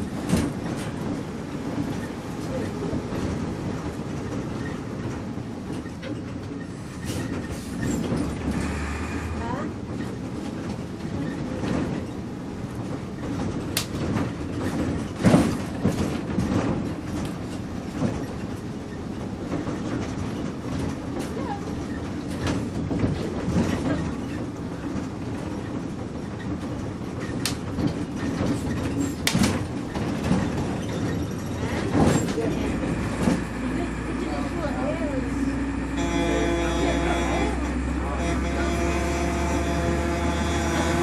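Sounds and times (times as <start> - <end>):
bus body rattling: 0.0 - 41.0
bus engine and road rumble: 0.0 - 41.0.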